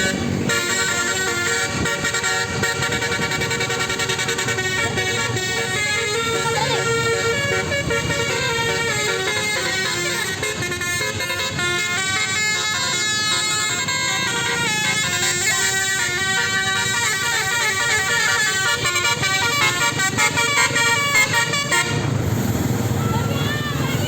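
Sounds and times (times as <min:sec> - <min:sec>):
multi-tone bus horn melody: 0:00.0 - 0:24.0.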